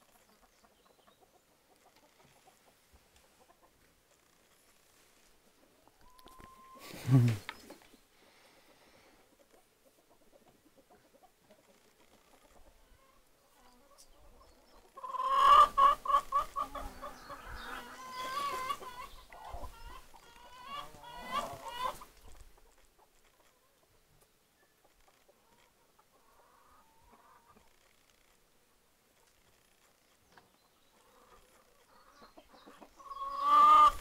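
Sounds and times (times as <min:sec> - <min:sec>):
chickens clucking: 0:00.1 - 0:04.2, 0:05.4 - 0:27.8, 0:29.0 - 0:34.0.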